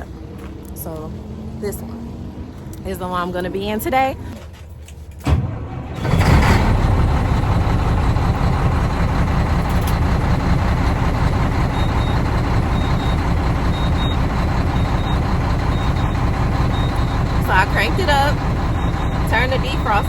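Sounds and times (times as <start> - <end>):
diesel truck engine starting and idling: 0.0 - 20.0.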